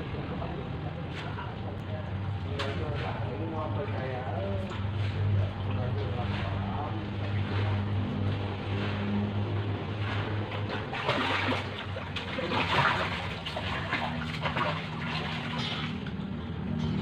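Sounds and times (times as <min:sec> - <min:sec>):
steady low hum: 0:00.0 - 0:17.0
water splashing and trickling: 0:02.5 - 0:17.0.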